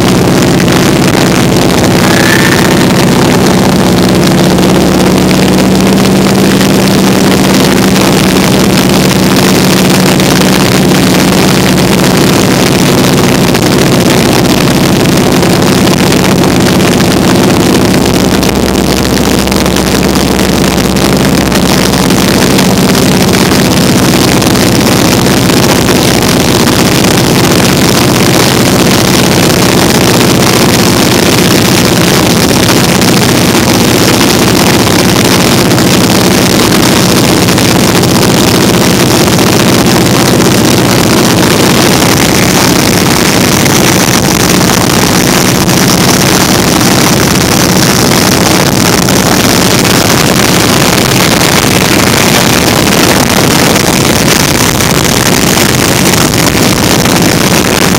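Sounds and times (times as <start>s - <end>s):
propeller plane engine running: 0.0s - 57.9s.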